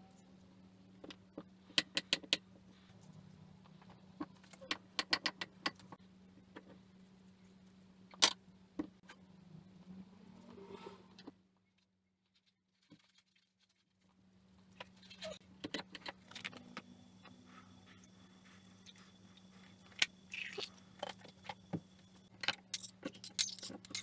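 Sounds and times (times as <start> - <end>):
low steady hum: 0.0 - 13.2, 14.0 - 24.0.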